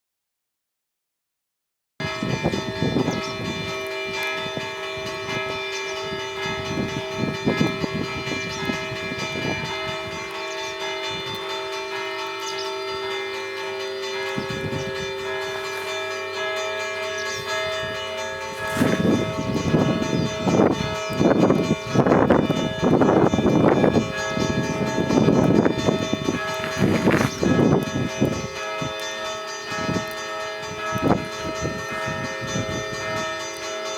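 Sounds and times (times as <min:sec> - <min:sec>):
church bells chiming: 0:02.0 - 0:33.9.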